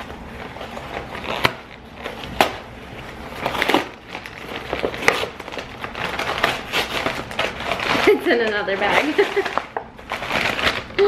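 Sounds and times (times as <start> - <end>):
envelope crinkling and rustling: 0.0 - 11.0
envelope tearing snaps: 0.8 - 2.6, 3.4 - 11.0.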